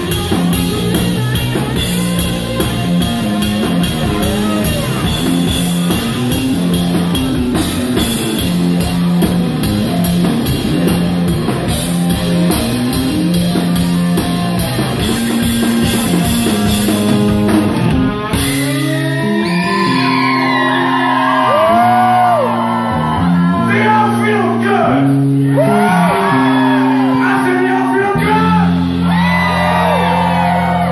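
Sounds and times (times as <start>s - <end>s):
bass guitar: 0.0s - 30.9s
drum kit: 0.0s - 30.9s
electric guitar: 0.0s - 30.9s
long sliding high guitar notes: 0.0s - 30.9s.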